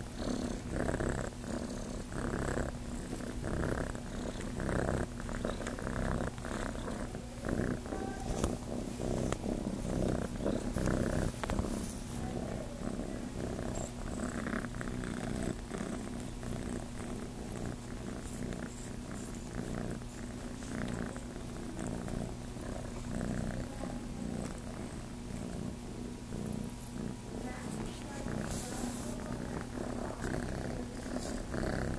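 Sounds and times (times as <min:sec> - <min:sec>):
kitten purring: 0:00.0 - 0:31.9.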